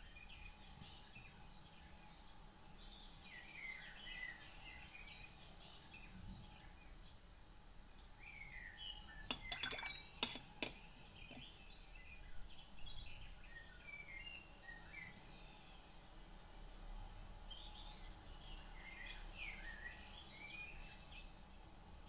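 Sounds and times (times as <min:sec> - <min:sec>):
birds chirping faintly: 0:00.0 - 0:21.7.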